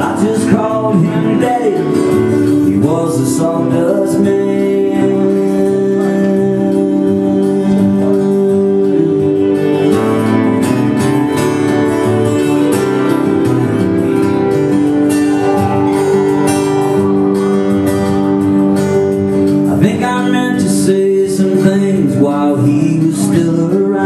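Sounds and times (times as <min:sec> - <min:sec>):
acoustic guitar strummed: 0:00.0 - 0:24.0.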